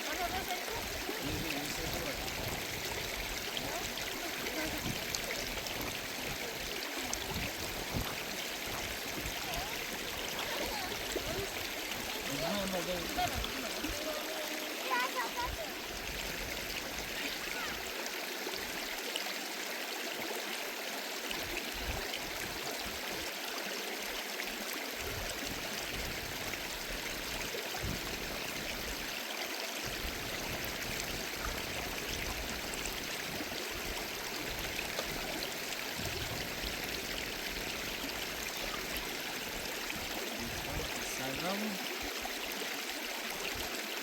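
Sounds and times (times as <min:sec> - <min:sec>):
stream water flowing: 0:00.0 - 0:44.0.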